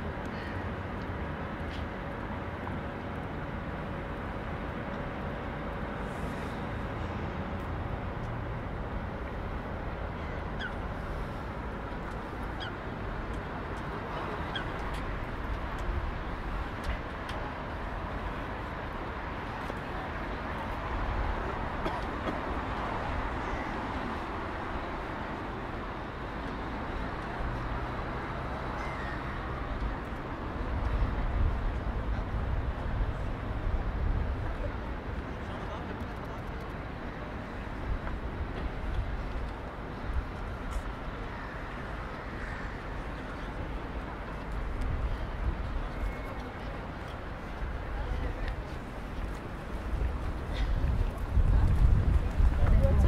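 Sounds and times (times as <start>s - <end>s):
city street ambience: 0.0s - 53.0s.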